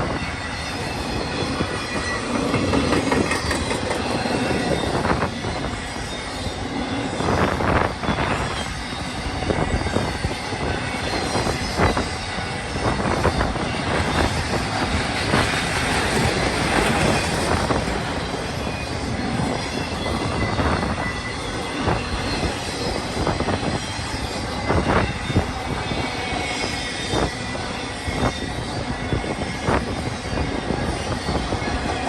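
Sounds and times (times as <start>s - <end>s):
freight train wheels clanking: 0.0s - 27.4s
faint thin squeal: 0.0s - 32.0s.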